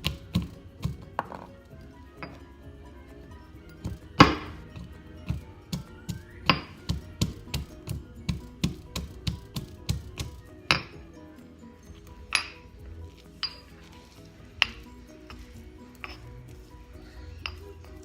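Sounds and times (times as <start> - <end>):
background music: 0.0 - 18.0
kitchenware clinking: 0.2 - 2.6, 3.6 - 11.1, 11.8 - 18.0.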